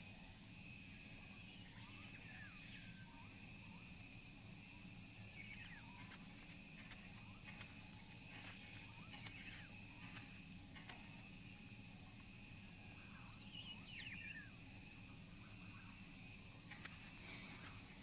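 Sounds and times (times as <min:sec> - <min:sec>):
high insect drone: 0:00.0 - 0:18.0
low hum: 0:00.0 - 0:18.0.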